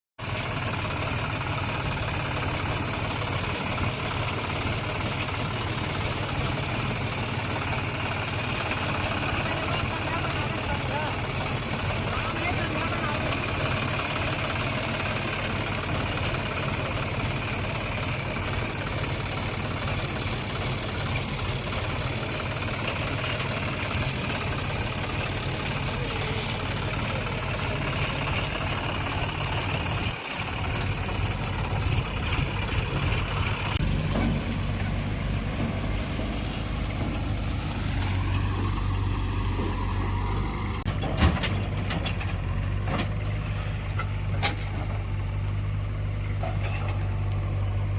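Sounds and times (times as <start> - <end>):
heavy machinery diesel engine running: 0.2 - 47.9.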